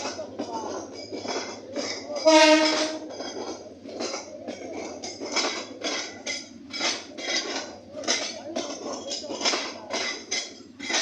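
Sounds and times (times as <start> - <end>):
train rumble: 0.0 - 11.0
train wheels clanking: 0.0 - 11.0.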